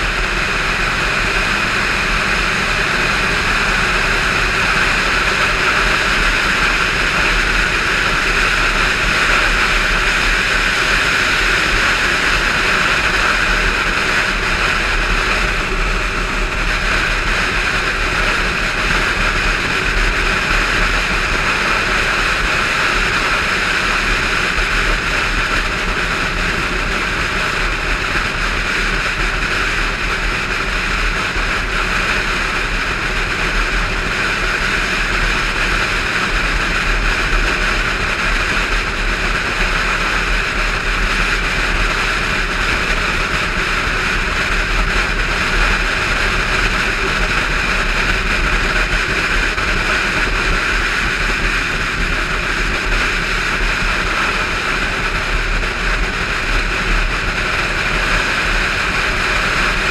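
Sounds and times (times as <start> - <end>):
motorcycle engine drone: 0.0 - 59.9.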